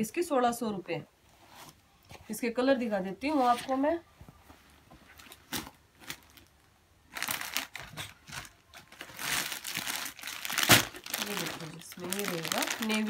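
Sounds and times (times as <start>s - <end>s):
fabric rustling and crinkling: 1.2s - 13.0s.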